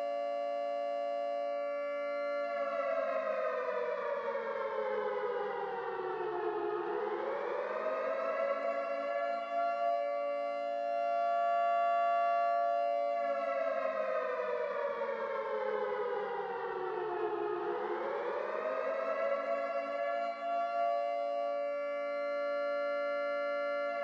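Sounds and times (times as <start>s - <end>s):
siren sliding in pitch: 0.0s - 24.0s.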